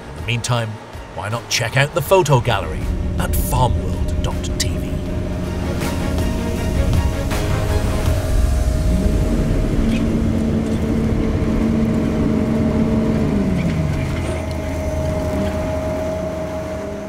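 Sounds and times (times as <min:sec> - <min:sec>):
engine rumbling and whining: 0:00.0 - 0:17.0.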